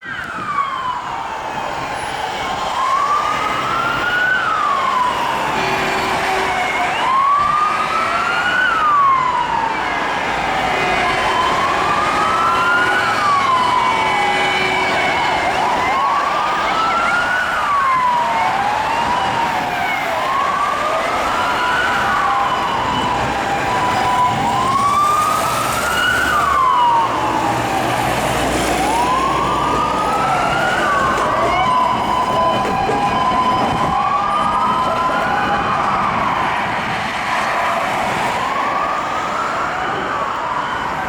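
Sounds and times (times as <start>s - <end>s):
fire engine sirens wailing: 0.0s - 41.0s
traffic noise: 0.0s - 41.0s.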